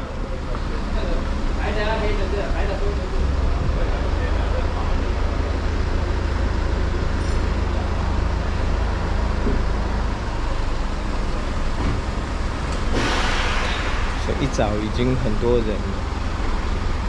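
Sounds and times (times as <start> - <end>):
traffic noise: 0.0 - 17.0
vehicle engines rumbling: 0.0 - 17.0.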